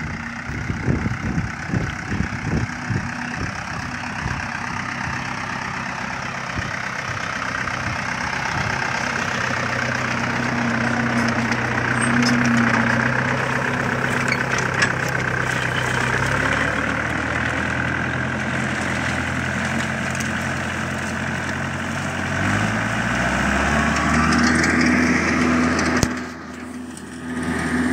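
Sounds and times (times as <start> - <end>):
implement and soil clattering: 0.0 - 27.9
tractor diesel engine running: 0.0 - 27.9.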